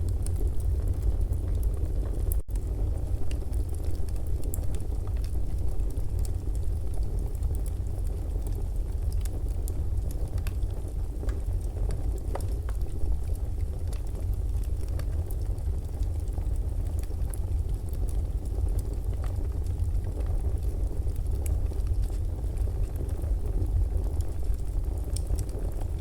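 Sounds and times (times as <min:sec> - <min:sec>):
fire crackling and popping: 0:00.0 - 0:26.0
fire low rumble: 0:00.0 - 0:26.0.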